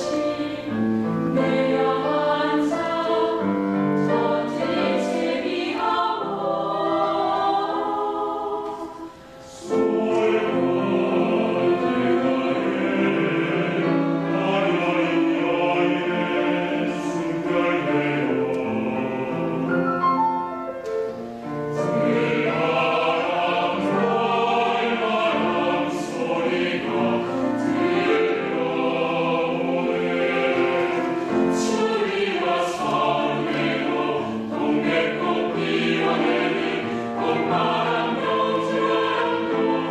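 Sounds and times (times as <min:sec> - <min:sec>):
mixed choir singing: 0:00.0 - 0:20.8, 0:21.4 - 0:39.9.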